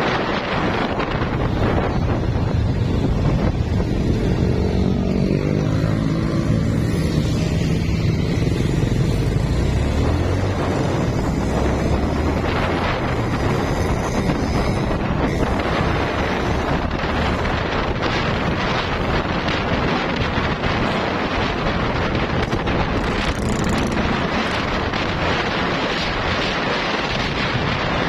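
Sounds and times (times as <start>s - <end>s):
wind noise on microphone: 0.0s - 28.0s
motorcycle engine running: 1.1s - 26.5s.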